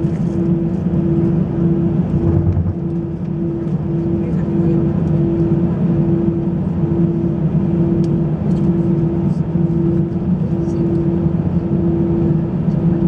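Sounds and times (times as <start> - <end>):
jet engine and airflow noise: 0.0 - 13.0
wavering low hum: 0.0 - 13.0.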